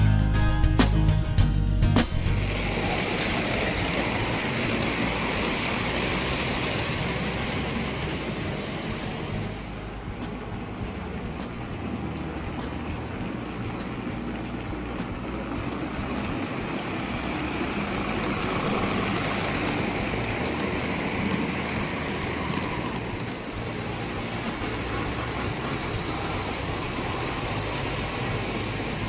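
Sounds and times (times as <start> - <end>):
toy train rumbling on track: 2.0 - 29.0
small clicks of train wheels: 2.4 - 29.0.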